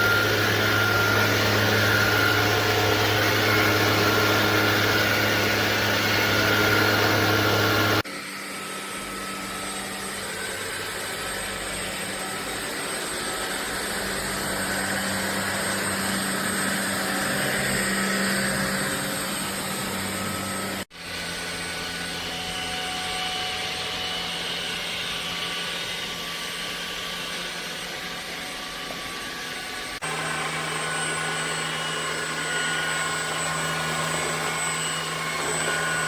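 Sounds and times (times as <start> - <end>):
vacuum cleaner motor whine: 0.0 - 36.0.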